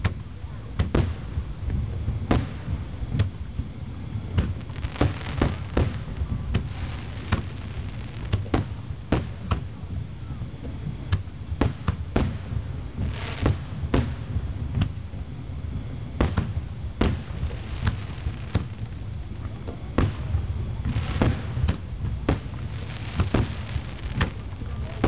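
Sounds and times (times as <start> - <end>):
fireworks bursting: 0.0 - 25.0
low rumble: 0.0 - 25.0.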